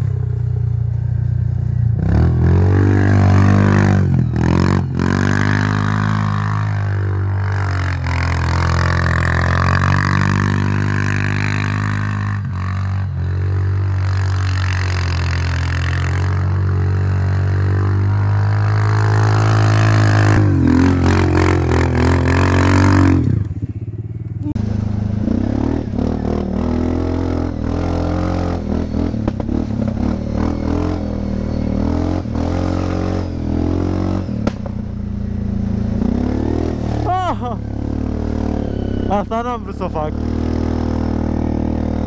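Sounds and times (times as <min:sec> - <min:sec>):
atv engine running under throttle: 0:00.0 - 0:42.0.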